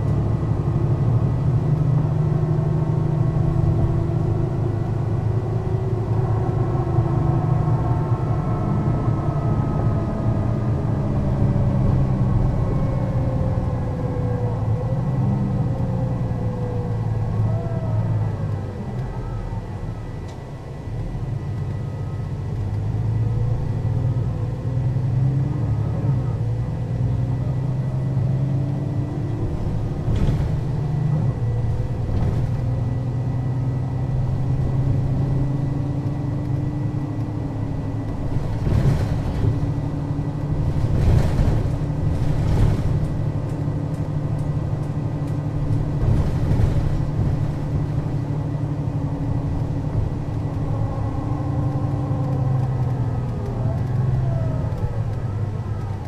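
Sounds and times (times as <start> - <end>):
bus diesel engine driving: 0.0 - 56.0.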